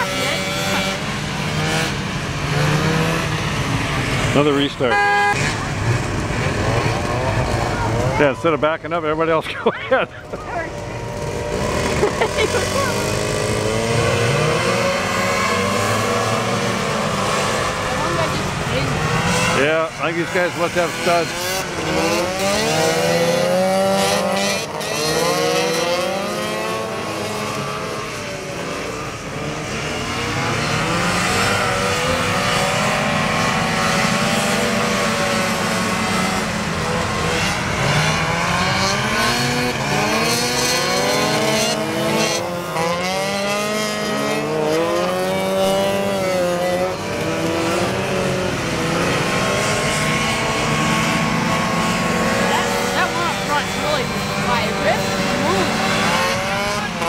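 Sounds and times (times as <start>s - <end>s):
snowmobile engines racing: 0.0s - 57.0s.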